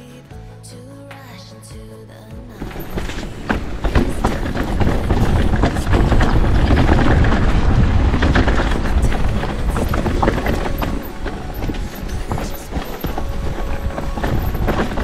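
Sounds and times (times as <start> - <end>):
bike knocks and rattles: 2.6 - 15.0
bike tyres rumbling over rocks: 2.6 - 15.0.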